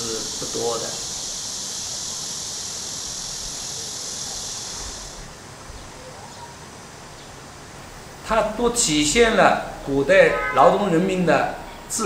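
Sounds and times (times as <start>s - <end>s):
low background noise: 0.0s - 12.0s
steady high hiss: 0.0s - 12.0s.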